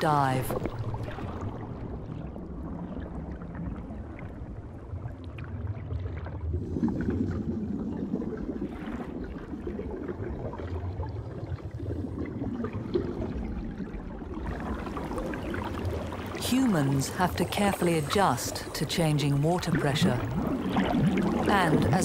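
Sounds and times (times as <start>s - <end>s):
underwater rush of water: 0.0s - 22.0s
water bubbling: 0.0s - 22.0s.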